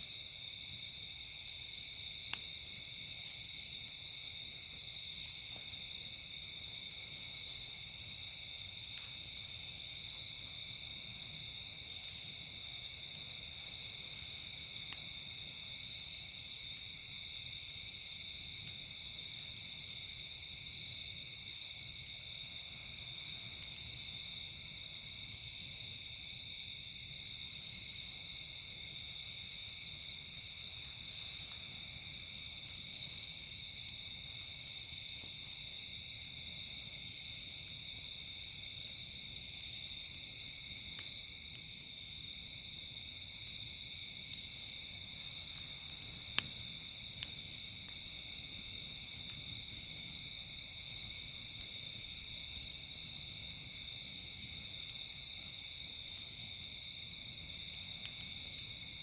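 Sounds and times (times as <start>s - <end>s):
campfire popping: 0.0s - 59.0s
crickets and night insects: 0.0s - 59.0s.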